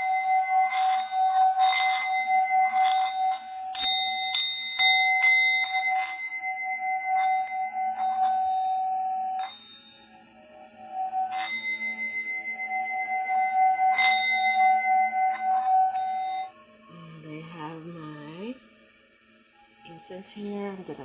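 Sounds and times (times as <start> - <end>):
bell-like ringing tone: 0.0 - 21.0.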